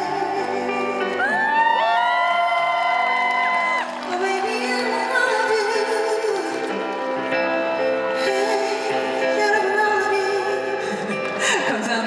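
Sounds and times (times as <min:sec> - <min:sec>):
woman singing a ballad: 0:00.0 - 0:02.5, 0:03.7 - 0:07.2, 0:08.0 - 0:12.0
backing music: 0:00.0 - 0:12.0.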